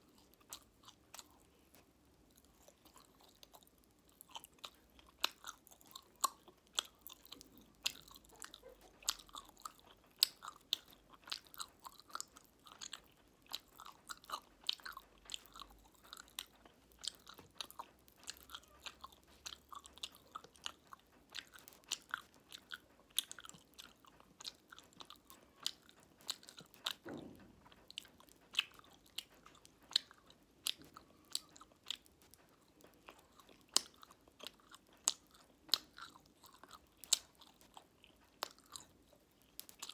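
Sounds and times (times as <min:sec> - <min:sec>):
popping candy crackles: 0:00.0 - 0:39.9
wet chewing mouth sounds: 0:00.0 - 0:39.9.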